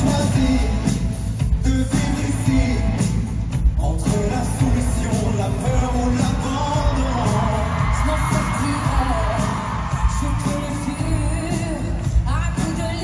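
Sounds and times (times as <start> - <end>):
live pop band with drums and bass: 0.0 - 13.0.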